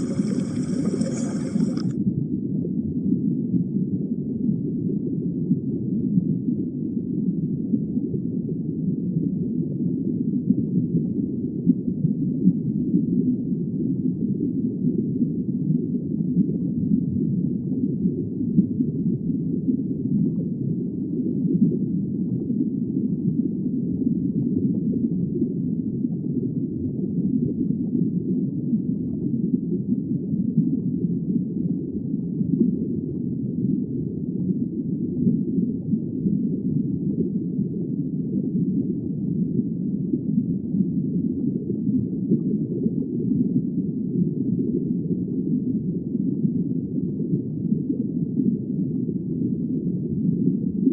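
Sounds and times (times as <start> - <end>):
muffled underwater rumble: 0.0 - 50.9.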